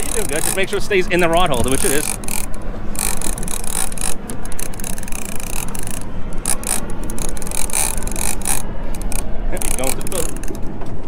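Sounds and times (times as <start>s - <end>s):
fishing reel clicking: 0.0s - 10.6s
steady rushing noise: 0.0s - 11.0s.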